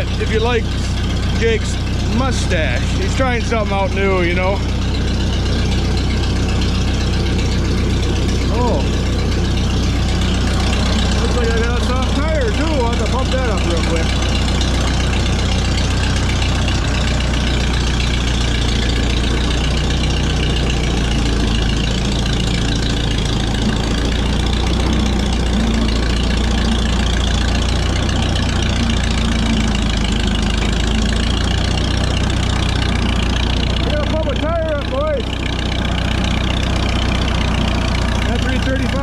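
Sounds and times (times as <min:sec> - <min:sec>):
tractor engine idling: 0:00.0 - 0:39.0.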